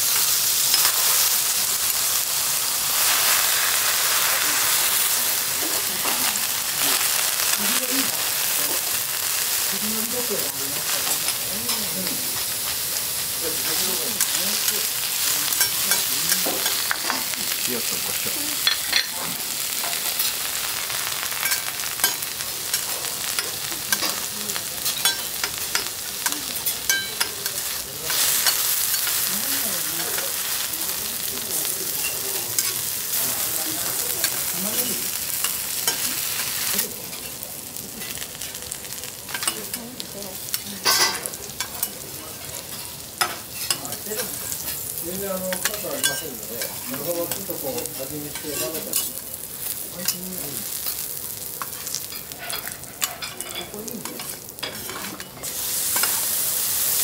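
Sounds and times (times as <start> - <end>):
vegetables sizzling on griddle: 0.0 - 57.0.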